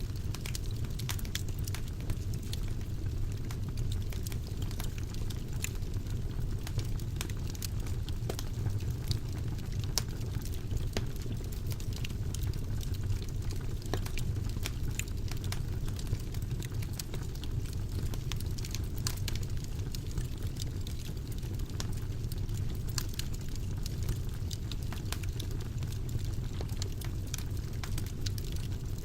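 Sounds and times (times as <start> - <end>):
fire crackling and popping: 0.0 - 29.0
low rumble of flame: 0.0 - 29.0.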